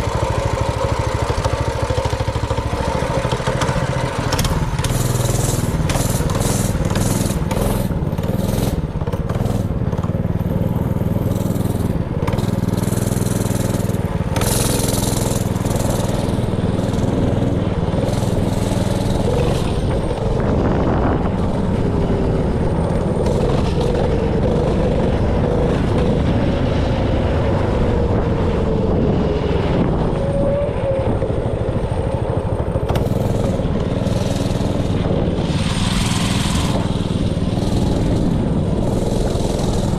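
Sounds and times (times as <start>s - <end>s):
mini bike engine running: 0.0s - 39.9s.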